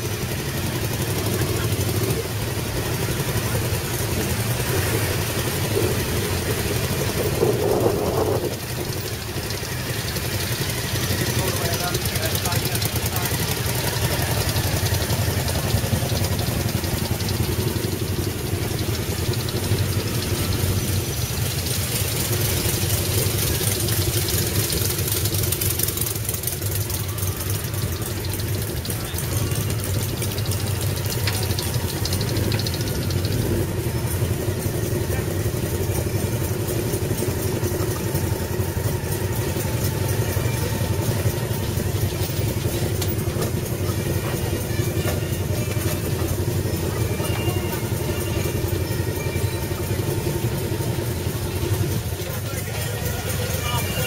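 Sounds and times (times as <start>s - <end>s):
motorcycles idling: 0.0s - 54.0s.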